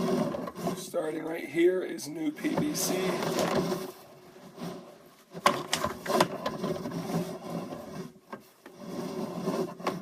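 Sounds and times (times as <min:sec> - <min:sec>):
cable scraping inside a pipe: 0:00.0 - 0:10.0.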